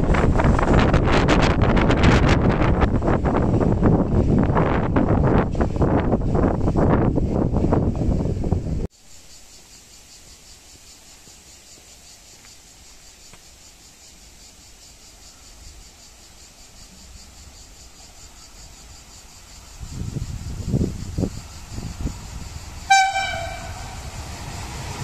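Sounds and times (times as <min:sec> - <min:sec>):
train rumbling: 0:00.0 - 0:08.9, 0:13.0 - 0:25.0
cicadas chirring: 0:00.0 - 0:25.0.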